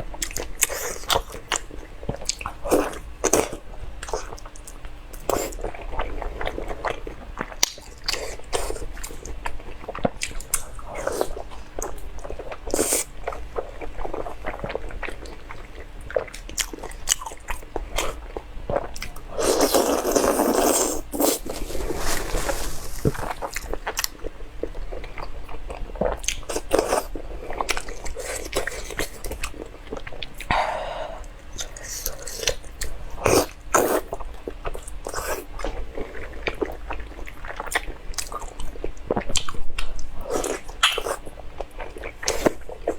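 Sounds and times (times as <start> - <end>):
person chewing seafood: 5.2 - 42.9.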